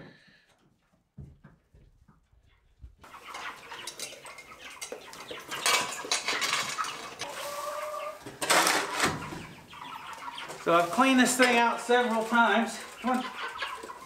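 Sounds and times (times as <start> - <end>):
chickens calling: 2.4 - 14.0.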